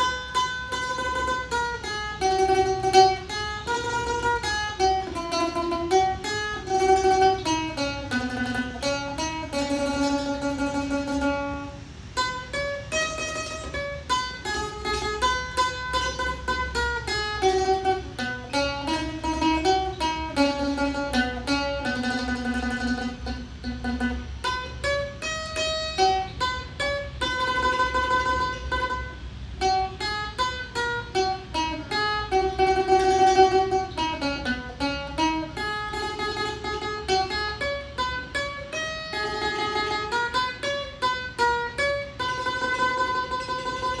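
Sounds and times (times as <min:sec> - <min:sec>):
mandolin melody: 0:00.0 - 0:44.0.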